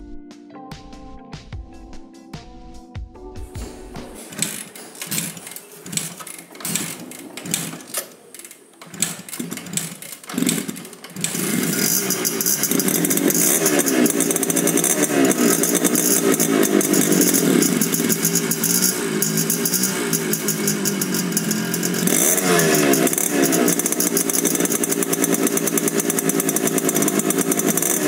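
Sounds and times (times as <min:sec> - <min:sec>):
two-stroke motorcycle engines revving: 0:04.2 - 0:28.0.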